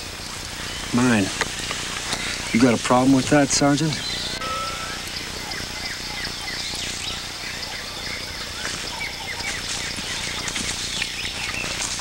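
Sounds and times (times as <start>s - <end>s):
birds chirping: 0.0s - 12.0s
steady hiss: 0.0s - 12.0s.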